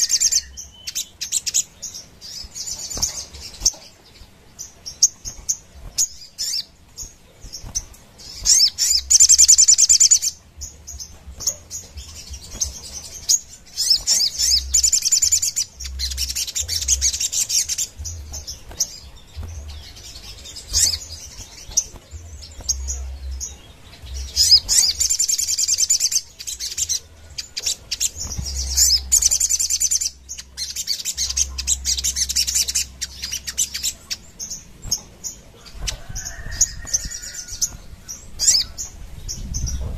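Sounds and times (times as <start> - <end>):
bird chattering trills: 0.0 - 39.7.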